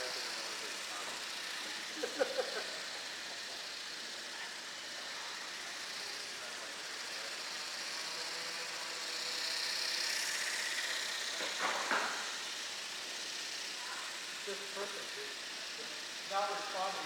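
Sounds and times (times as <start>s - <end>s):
model aircraft motor whining: 0.0s - 17.0s.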